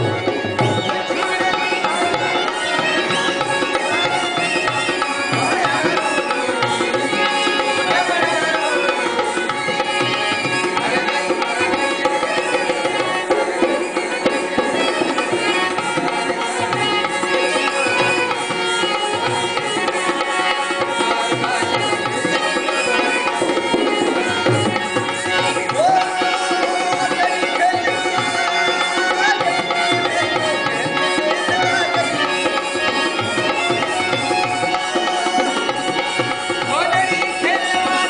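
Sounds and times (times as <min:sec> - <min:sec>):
hand drum rhythm: 0:00.0 - 0:38.0
wavering sung or reed melody: 0:00.0 - 0:38.0.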